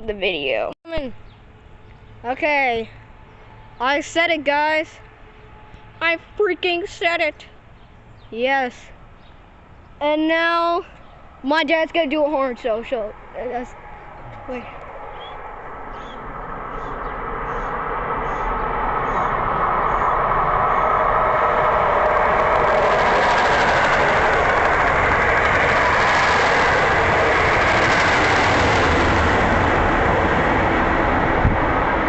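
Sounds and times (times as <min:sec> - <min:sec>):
train passing on tracks: 0:01.4 - 0:32.0.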